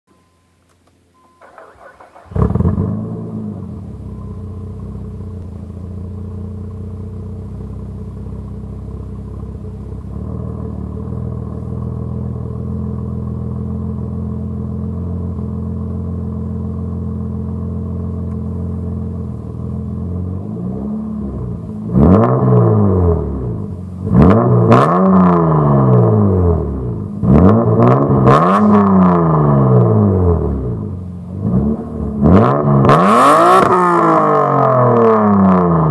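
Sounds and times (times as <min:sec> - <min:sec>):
car engine idling and revving: 0:00.1 - 0:35.9.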